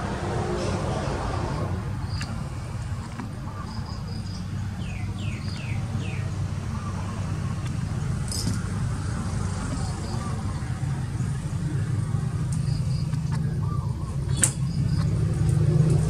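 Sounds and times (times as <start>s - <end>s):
low motor rumble: 0.0s - 16.0s.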